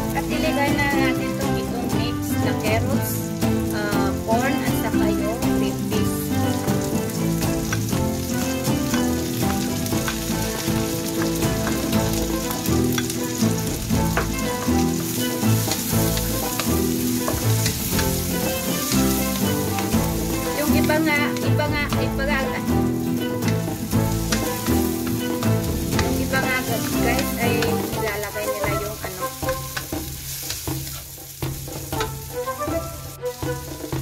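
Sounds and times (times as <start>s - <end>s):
food sizzling in hot oil: 0.0s - 34.0s
wooden spatula stirring: 0.0s - 34.0s.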